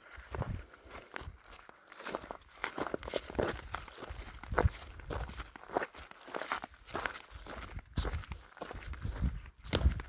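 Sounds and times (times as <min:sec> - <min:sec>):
footsteps scuffing on ground: 0:00.0 - 0:10.0.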